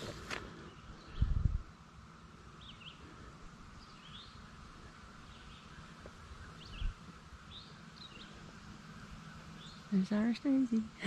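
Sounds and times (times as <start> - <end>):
birds chirping: 0.0 - 11.0
faint outdoor background: 0.0 - 11.0.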